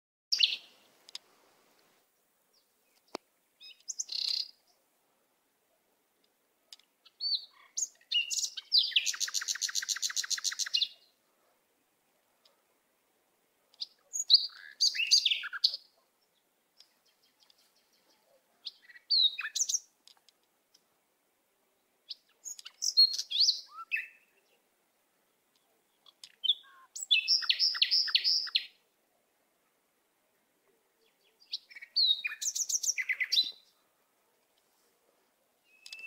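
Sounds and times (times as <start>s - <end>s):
songbirds chirping: 0.3s - 36.0s.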